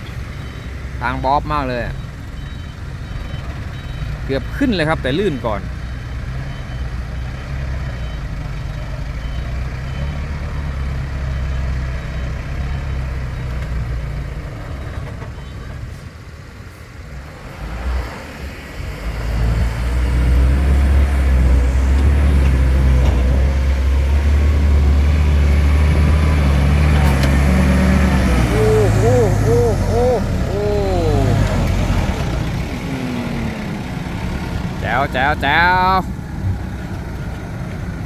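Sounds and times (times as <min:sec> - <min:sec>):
diesel truck engine labouring: 0:00.0 - 0:38.0.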